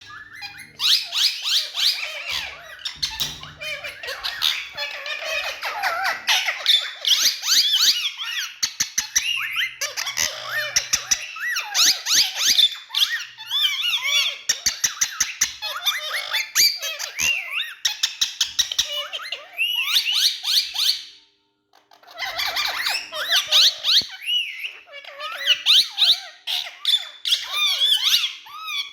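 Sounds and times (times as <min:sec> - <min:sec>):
parakeets chattering: 0:00.0 - 0:21.0, 0:21.8 - 0:28.9.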